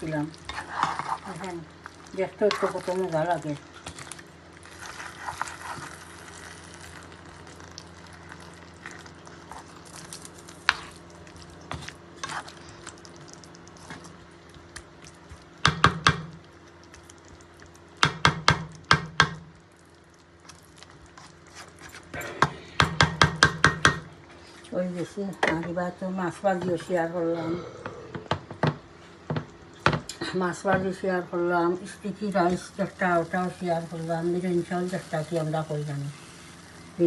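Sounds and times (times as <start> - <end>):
low kitchen hum: 0.0 - 37.0.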